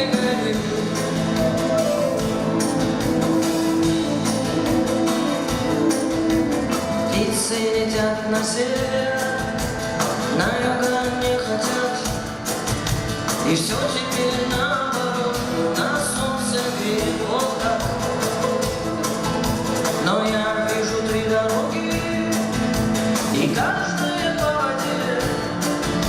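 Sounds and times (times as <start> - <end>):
person singing: 0.0 - 12.6, 13.3 - 26.0
live band playing: 0.0 - 26.0.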